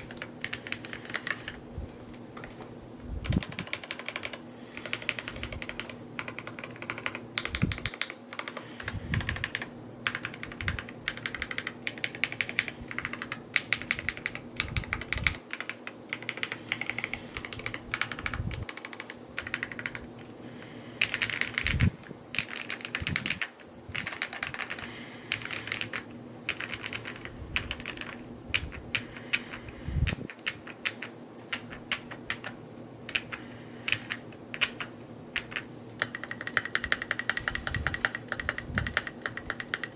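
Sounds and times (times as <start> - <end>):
mechanical keyboard typing: 0.0 - 1.6, 3.2 - 20.1, 21.0 - 39.9.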